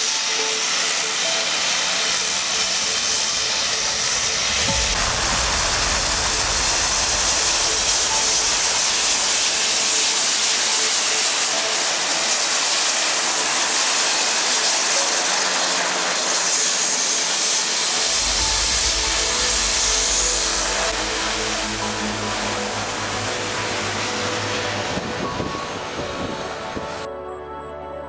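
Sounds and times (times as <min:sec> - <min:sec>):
aircraft engines running: 0:00.0 - 0:28.0.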